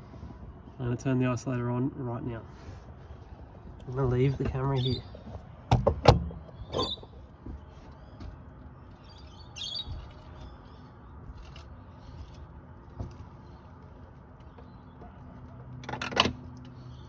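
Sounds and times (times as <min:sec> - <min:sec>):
faint birds chirping: 0:00.0 - 0:05.7, 0:06.3 - 0:17.0.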